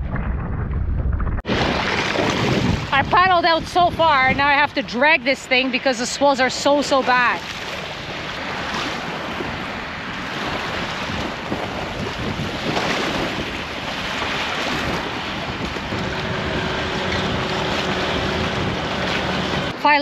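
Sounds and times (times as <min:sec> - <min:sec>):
wind buffeting microphone: 0:00.0 - 0:20.0
waves washing and splashing: 0:01.4 - 0:20.0.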